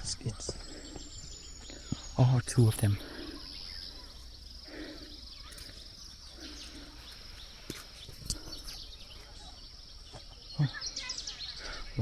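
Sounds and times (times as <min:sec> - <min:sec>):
bird song: 0:00.0 - 0:12.0
high pulsing insect trill: 0:00.0 - 0:12.0.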